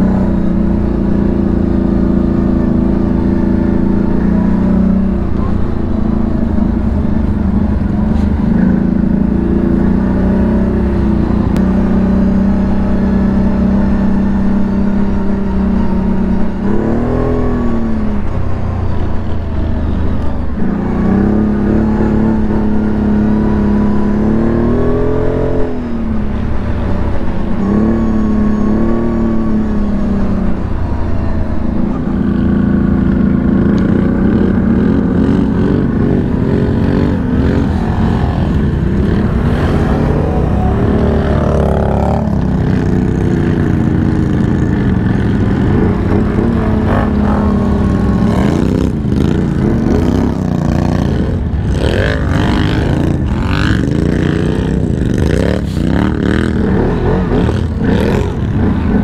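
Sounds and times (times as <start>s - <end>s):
atv engine running under load: 0.0s - 59.0s.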